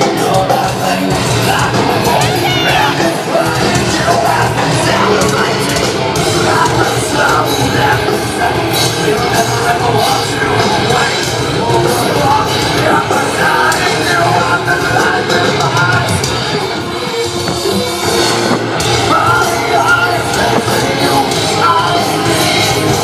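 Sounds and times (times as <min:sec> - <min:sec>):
heavy rock band playing: 0:00.0 - 0:23.0
person singing: 0:00.0 - 0:23.0.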